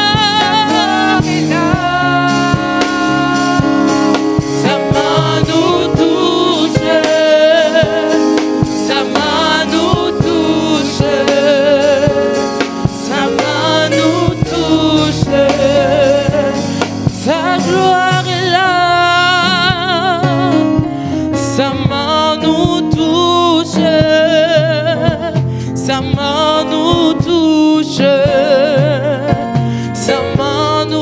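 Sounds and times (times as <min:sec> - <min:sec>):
electric keyboard: 0:00.0 - 0:31.0
women singing gospel song: 0:00.0 - 0:31.0.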